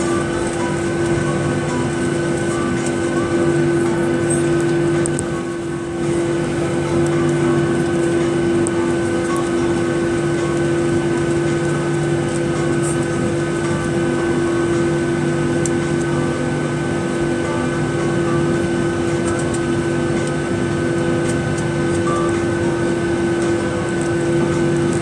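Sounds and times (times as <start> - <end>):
jet engine cabin hum: 0.0 - 25.0.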